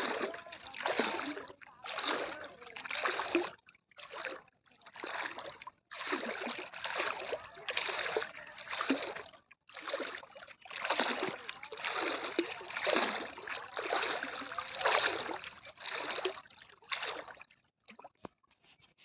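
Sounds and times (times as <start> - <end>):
floodwater splashing: 0.0 - 18.4.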